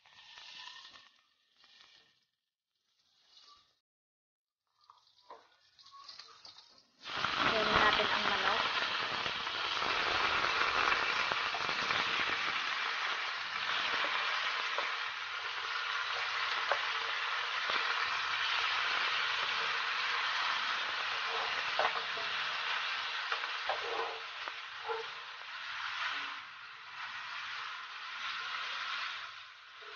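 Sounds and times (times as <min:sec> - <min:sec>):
chicken sizzling in hot oil: 0:00.0 - 0:03.8, 0:04.6 - 0:29.9.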